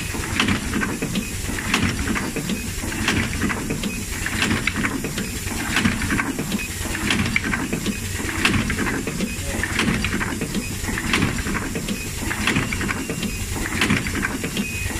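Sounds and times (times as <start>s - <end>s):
air hiss and clatter: 0.0s - 14.8s
low machine running noise: 0.0s - 14.9s.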